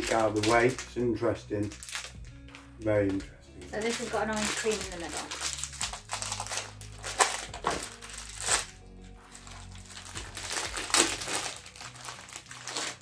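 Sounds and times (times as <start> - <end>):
plastic wrapper crinkling: 0.0 - 1.0, 1.6 - 13.0
soft background music: 0.0 - 13.0.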